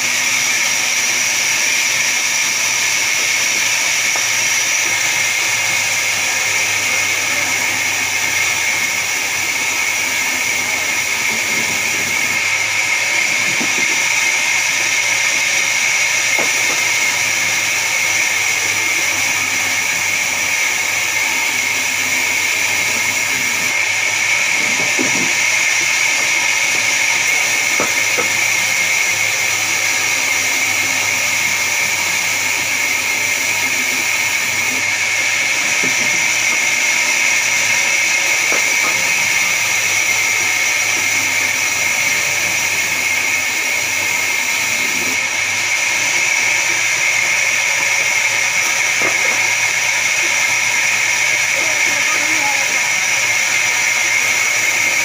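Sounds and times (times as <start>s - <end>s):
band saw whining: 0.0s - 55.0s.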